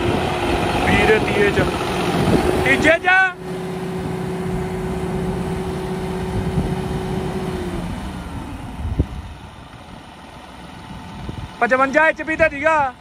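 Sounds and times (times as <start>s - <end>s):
tractor diesel engine drone: 0.0s - 13.0s.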